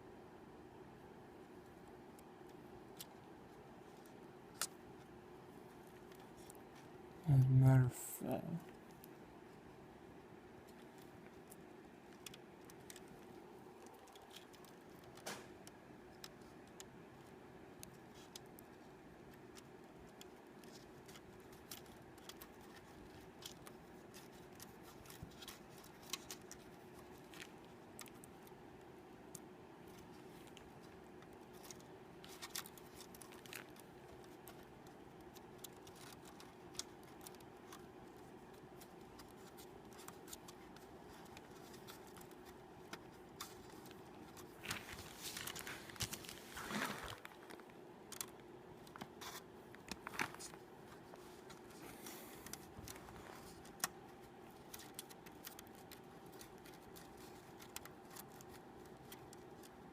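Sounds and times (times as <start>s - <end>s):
faint steady hum: 0.0s - 59.9s
small parts clicking and scraping: 10.6s - 28.6s, 29.2s - 59.9s.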